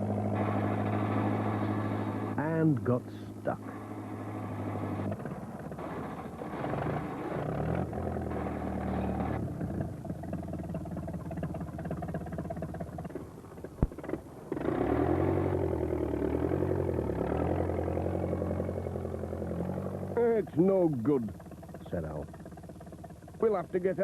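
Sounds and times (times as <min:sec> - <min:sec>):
tractor engine revving and labouring: 0:00.0 - 0:24.0.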